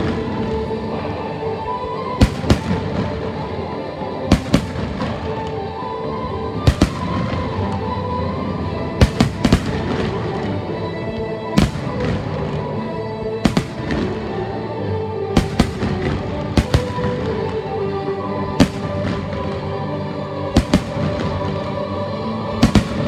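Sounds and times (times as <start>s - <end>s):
music playing: 0.0s - 23.0s
fireworks bursting: 1.8s - 5.7s, 6.6s - 14.7s, 15.3s - 23.0s.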